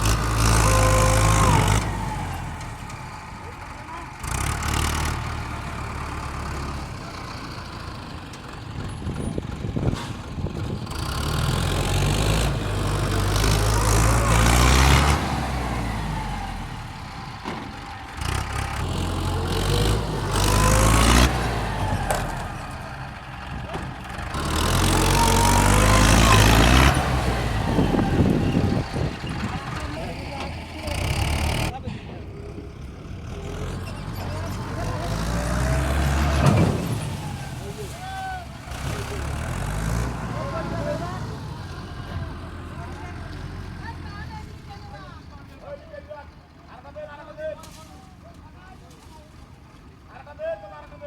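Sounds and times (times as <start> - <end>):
tractor diesel engine revving: 0.0 - 50.1.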